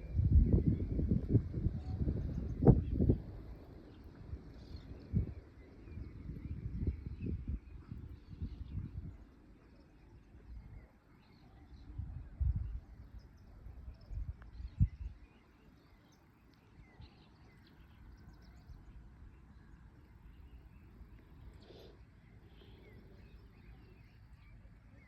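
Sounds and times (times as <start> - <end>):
faint bird chirps: 0.0 - 25.0
wind rumbling on microphone: 0.0 - 25.0.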